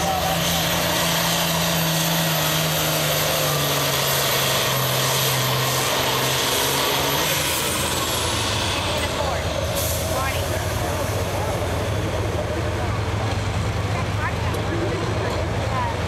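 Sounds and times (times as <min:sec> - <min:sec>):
diesel engine under heavy load: 0:00.0 - 0:16.0.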